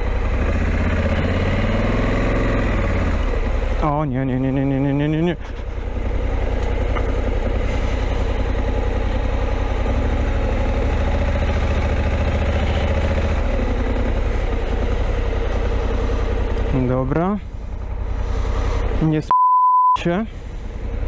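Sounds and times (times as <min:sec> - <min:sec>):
motorcycle engine at low revs: 0:00.0 - 0:19.3, 0:20.0 - 0:21.0.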